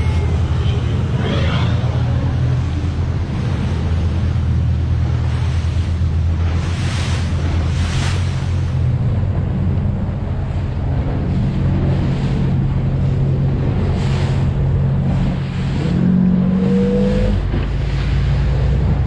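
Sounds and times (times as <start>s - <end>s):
hull slapping through spray: 0.0s - 19.0s
speedboat engine running hard: 0.0s - 19.0s
water rushing: 0.0s - 19.0s.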